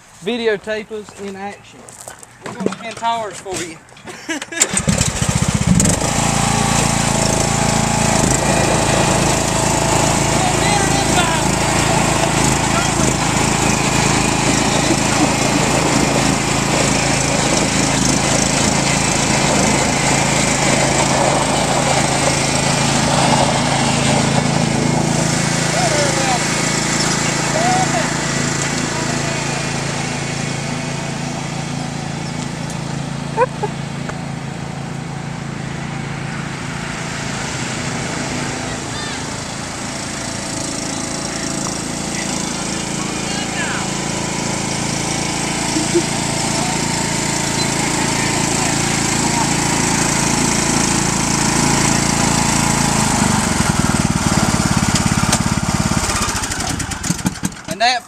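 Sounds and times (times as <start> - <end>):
lawnmower engine running: 0.0 - 58.0.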